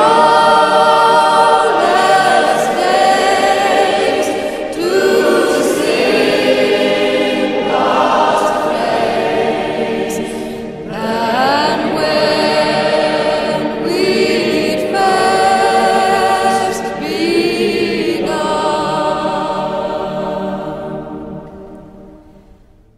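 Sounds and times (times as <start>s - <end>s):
choir singing a slow hymn: 0.0s - 22.9s.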